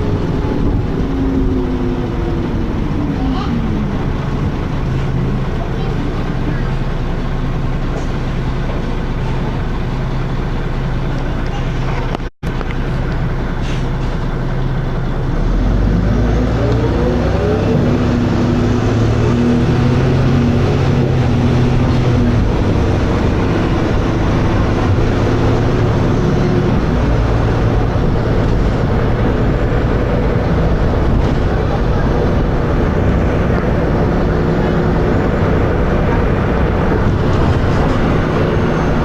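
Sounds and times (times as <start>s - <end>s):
bus engine accelerating: 0.0s - 39.0s.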